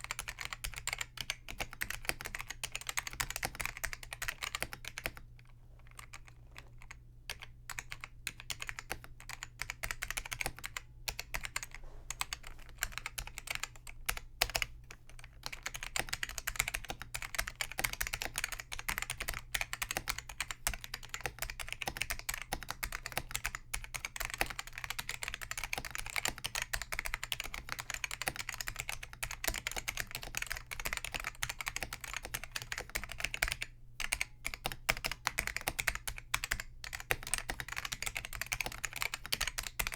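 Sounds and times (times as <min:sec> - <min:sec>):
keyboard typing: 0:00.0 - 0:05.3, 0:05.9 - 0:39.9.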